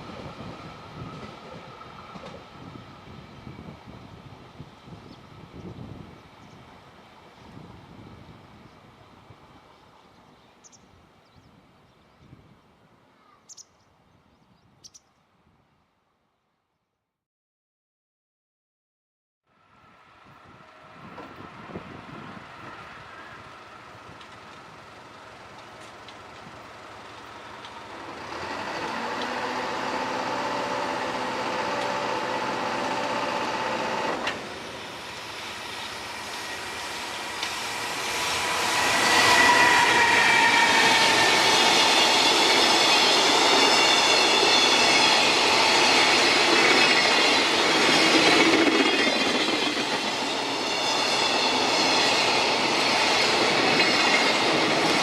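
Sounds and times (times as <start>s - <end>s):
train rumbling past: 0.0s - 10.8s, 19.6s - 55.0s.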